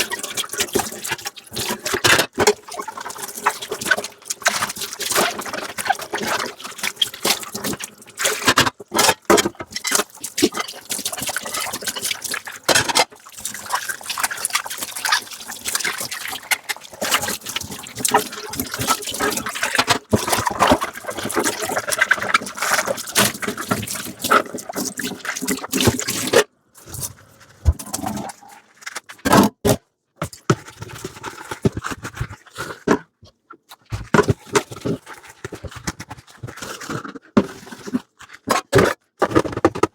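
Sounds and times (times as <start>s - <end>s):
water splashing in sink: 0.0s - 33.0s.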